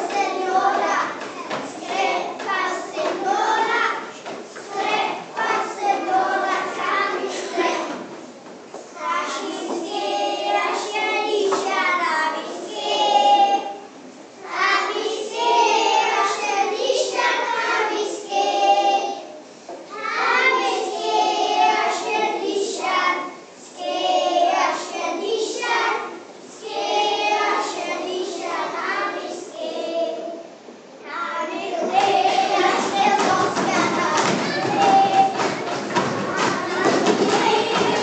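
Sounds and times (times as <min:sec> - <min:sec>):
children singing in unison: 0:00.0 - 0:08.1, 0:09.0 - 0:38.0.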